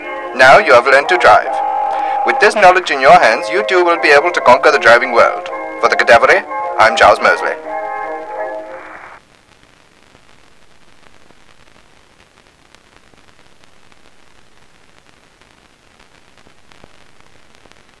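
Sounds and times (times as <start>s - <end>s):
film soundtrack hiss: 0.0s - 18.0s.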